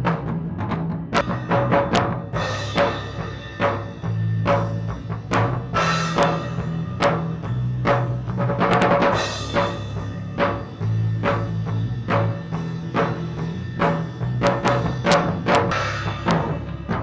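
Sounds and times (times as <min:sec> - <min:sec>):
drum kit steady beat: 0:00.0 - 0:17.0
held low notes: 0:00.0 - 0:17.0
cymbal crashes: 0:01.2 - 0:08.4, 0:09.0 - 0:17.0.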